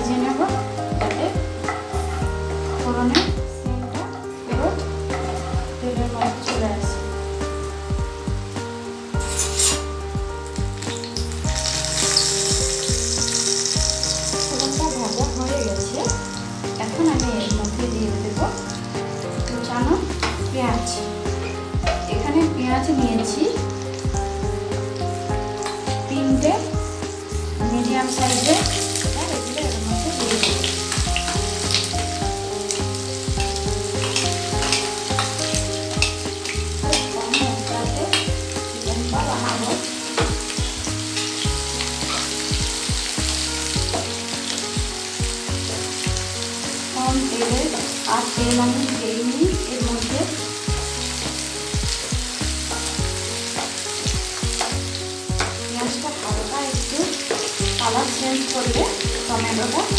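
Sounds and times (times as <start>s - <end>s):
onions sizzling in hot oil: 0.0s - 59.9s.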